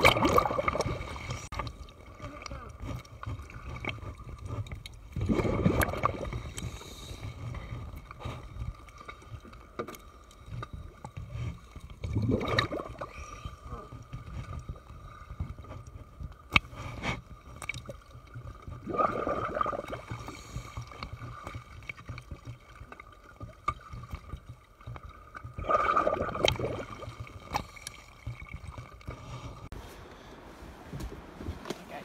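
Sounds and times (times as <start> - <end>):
water sloshing and gurgling: 0.0 - 32.0.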